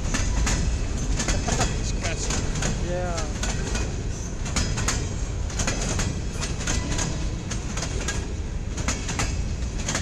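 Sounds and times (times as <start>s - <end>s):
freight train rumbling: 0.0s - 10.0s
wheels clicking over rail joints: 0.0s - 10.0s.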